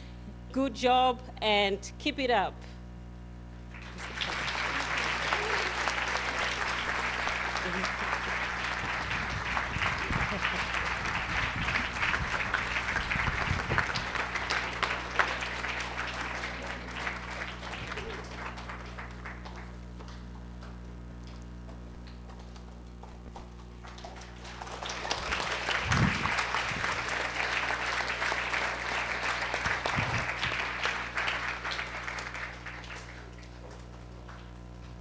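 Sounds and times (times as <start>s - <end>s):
audience applauding: 3.3s - 35.0s.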